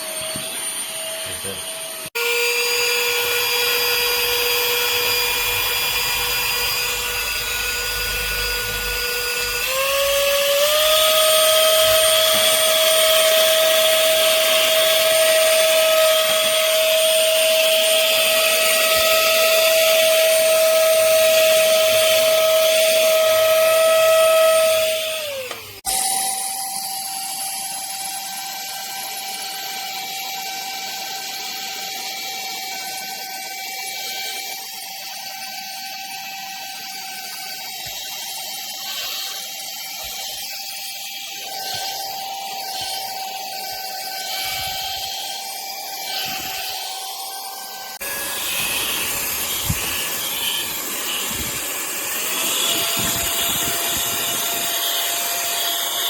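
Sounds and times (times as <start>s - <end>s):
handheld vacuum cleaner whine: 0.0s - 56.0s.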